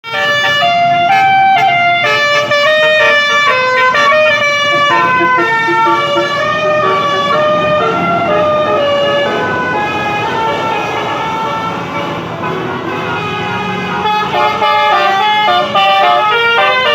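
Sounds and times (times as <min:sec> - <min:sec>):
bus engines rumbling: 0:00.0 - 0:16.9
melodic bus horns: 0:00.0 - 0:16.9.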